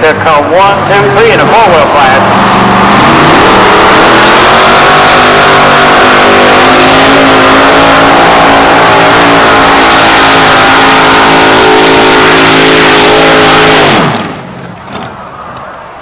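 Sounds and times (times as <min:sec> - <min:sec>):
truck engine revving loud: 0:00.0 - 0:14.8.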